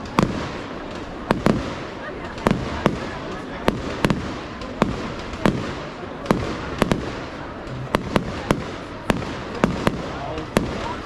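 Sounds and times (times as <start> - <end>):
fireworks bursts: 0.0 - 11.0.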